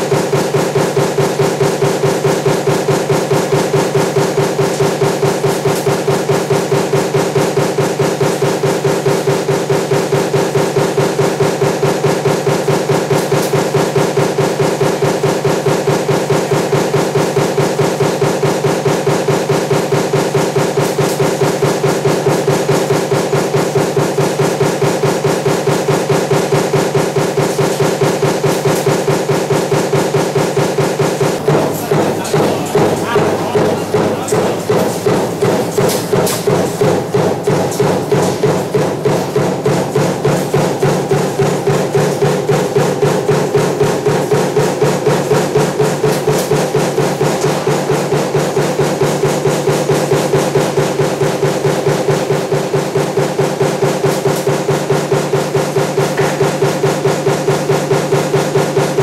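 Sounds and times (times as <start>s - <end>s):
power press striking: 0.0s - 59.0s
steady machine hum: 0.0s - 59.0s.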